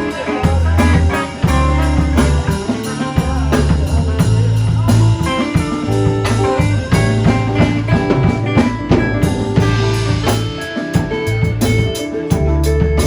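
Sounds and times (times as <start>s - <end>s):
drum kit beat: 0.0s - 13.0s
instrumental blues music: 0.0s - 13.0s.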